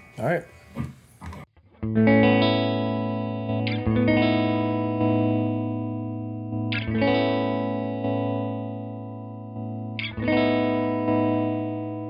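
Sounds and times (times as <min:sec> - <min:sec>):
electric guitar chords with tremolo: 0:01.6 - 0:12.0.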